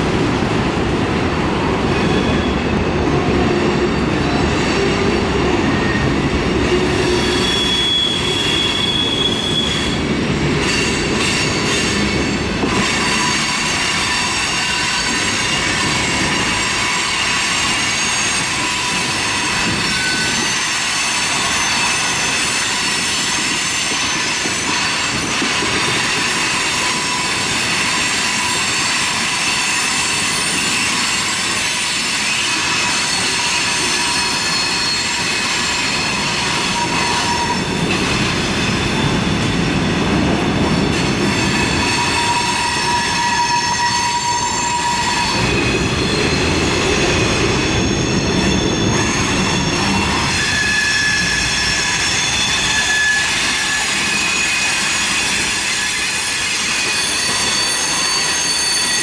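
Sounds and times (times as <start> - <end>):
freight train rumbling past: 0.0 - 59.0
steel wheels squealing: 1.8 - 59.0.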